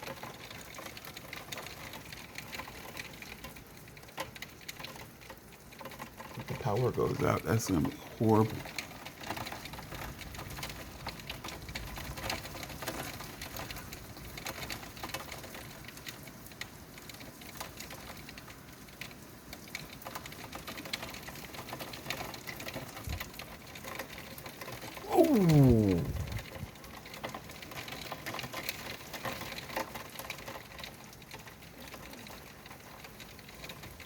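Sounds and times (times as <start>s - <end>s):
heavy rain pattering: 0.0s - 34.0s.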